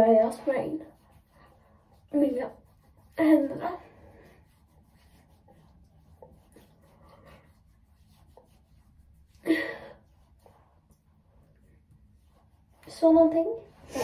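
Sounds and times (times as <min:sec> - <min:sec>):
hands rubbing cream on face: 0:00.3 - 0:09.4, 0:10.0 - 0:13.5.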